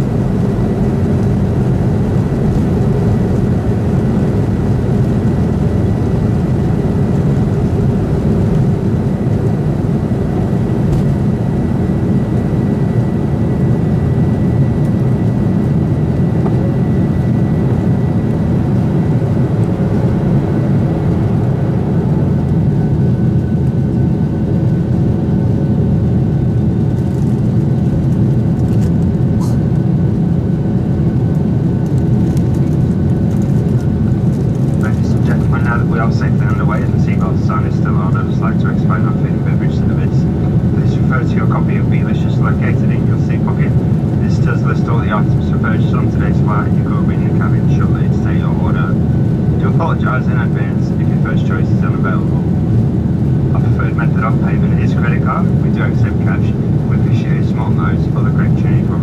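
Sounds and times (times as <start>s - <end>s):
high engine whine: 0.0s - 59.0s
jet engine rumble: 0.0s - 59.0s.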